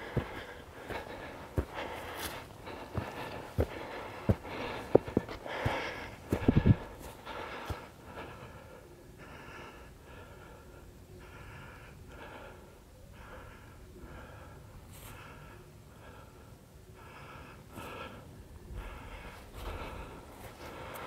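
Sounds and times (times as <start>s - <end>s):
heavy breathing: 0.0s - 21.0s.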